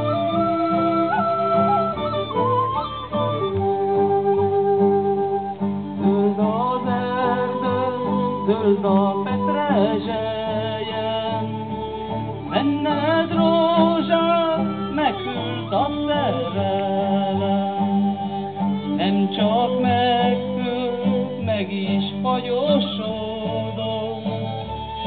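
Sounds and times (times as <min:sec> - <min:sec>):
band music with guitar: 0:00.0 - 0:25.0
person singing: 0:03.5 - 0:25.0.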